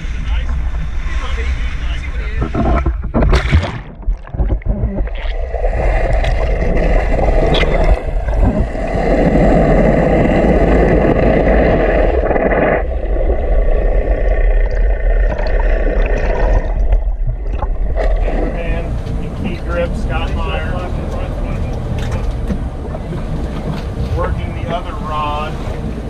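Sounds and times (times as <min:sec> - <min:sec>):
muffled underwater engine drone: 0:00.0 - 0:26.0
rushing water: 0:00.0 - 0:26.0.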